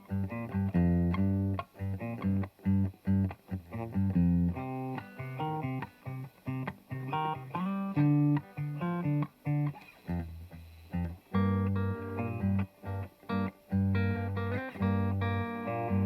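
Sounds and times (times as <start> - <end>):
clean electric guitar riff: 0.0 - 16.0.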